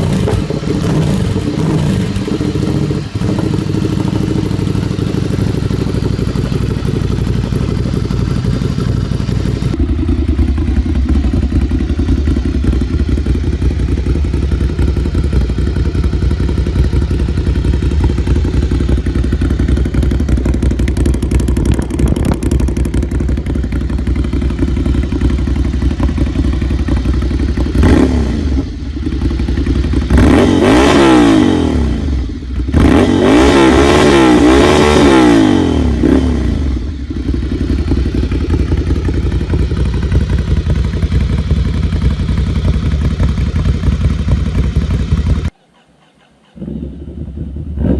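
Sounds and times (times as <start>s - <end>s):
motorcycle engine revving: 0.0s - 45.6s, 46.5s - 47.9s.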